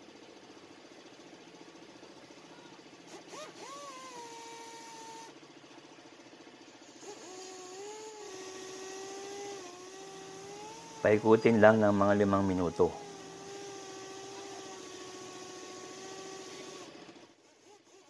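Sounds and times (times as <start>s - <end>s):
electric drill motor whine: 0.0s - 18.0s.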